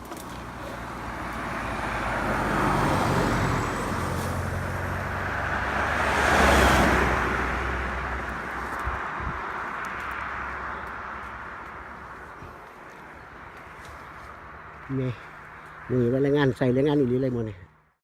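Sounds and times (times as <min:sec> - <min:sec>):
vehicle passing: 0:00.0 - 0:17.9.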